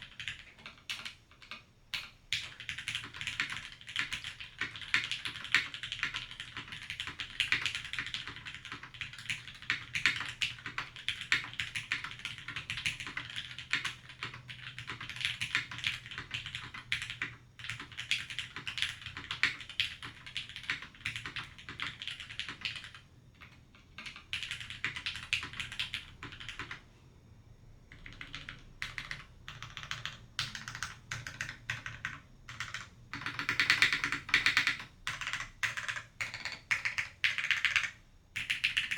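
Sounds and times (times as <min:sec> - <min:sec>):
mechanical keyboard typing: 0:00.0 - 0:26.8, 0:27.9 - 0:38.9.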